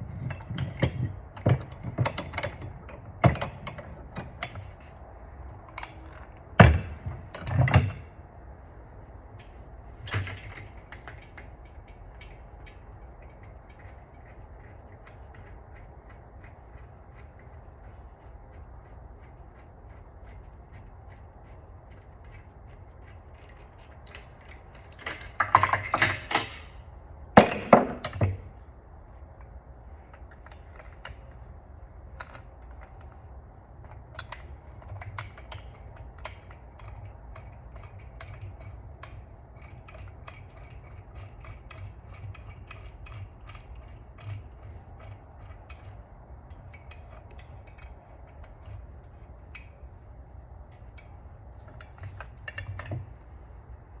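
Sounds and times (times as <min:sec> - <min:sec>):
bolts and tools clinking: 0:00.0 - 0:05.0, 0:09.3 - 0:18.0, 0:19.2 - 0:28.6, 0:32.1 - 0:50.0, 0:50.6 - 0:54.0.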